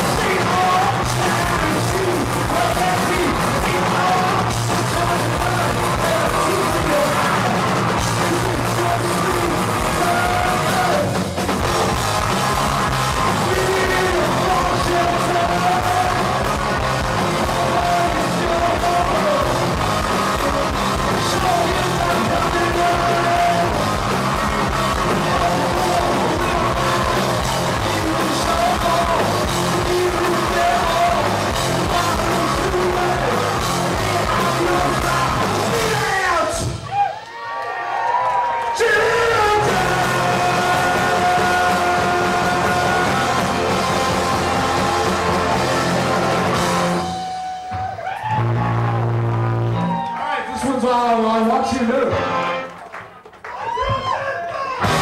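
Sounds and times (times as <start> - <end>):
sung and shouted vocals: 0.0 - 11.3, 12.9 - 36.9, 38.4 - 48.1
punk rock band playing: 0.0 - 36.9, 38.8 - 53.2, 54.8 - 55.0.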